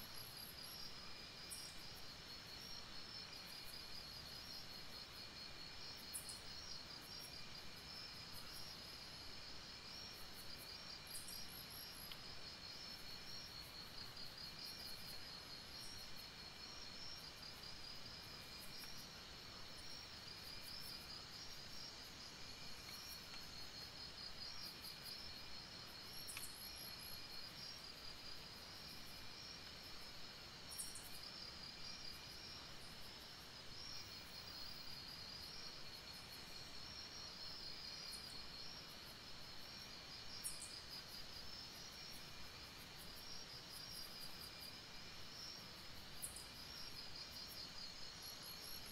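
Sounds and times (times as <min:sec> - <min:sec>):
crickets trilling: 0:02.5 - 0:48.9.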